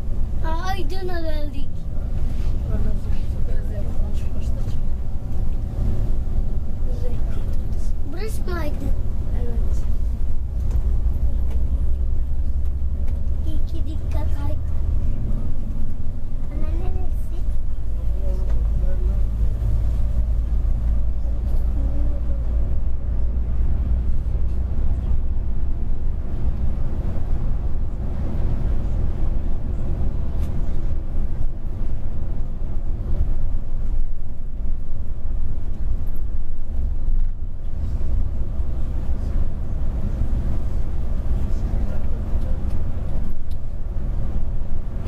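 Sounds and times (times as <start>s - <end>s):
coach engine and road rumble: 0.0s - 45.0s.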